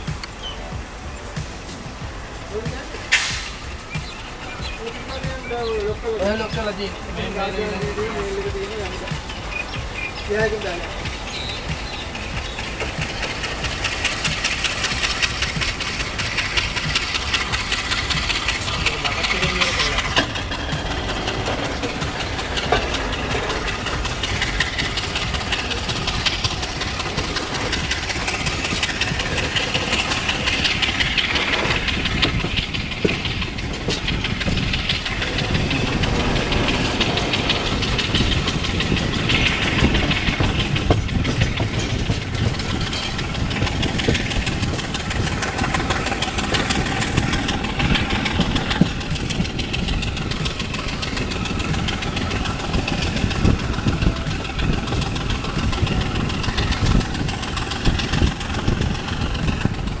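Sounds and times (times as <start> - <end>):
diesel locomotive drone: 0.0 - 60.0
train coach rattling: 0.0 - 60.0
train wheels on rails: 0.0 - 60.0.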